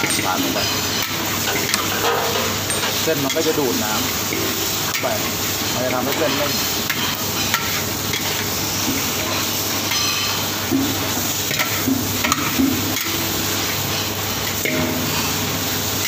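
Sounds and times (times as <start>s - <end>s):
metal clinking against wok: 0.0s - 16.0s
noodles sizzling in a wok: 0.0s - 16.0s.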